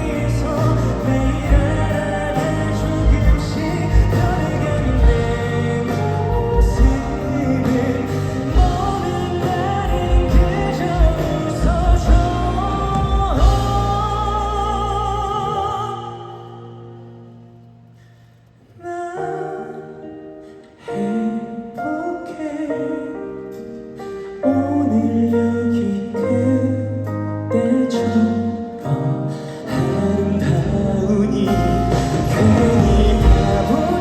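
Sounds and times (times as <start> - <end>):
live pop ballad band: 0.0 - 34.0.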